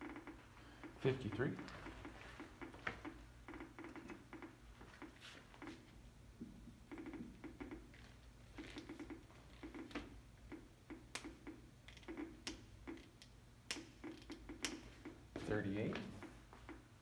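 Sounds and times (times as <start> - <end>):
geiger counter clicking: 0.0 - 5.8, 6.8 - 15.3, 16.2 - 16.9.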